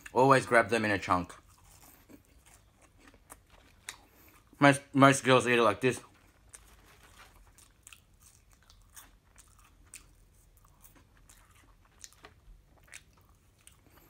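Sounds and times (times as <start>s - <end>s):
faint chewing with mouth clicks: 0.0s - 0.2s, 1.0s - 5.0s, 5.9s - 14.0s.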